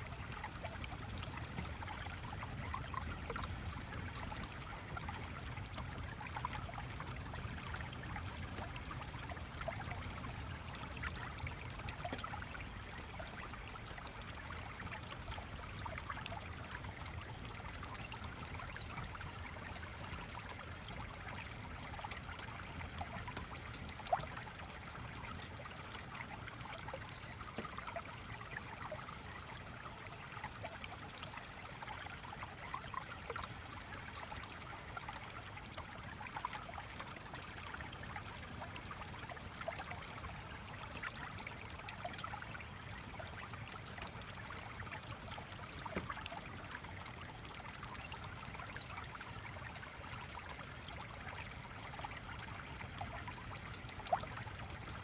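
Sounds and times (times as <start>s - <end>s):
stream babbling: 10.5s - 55.0s.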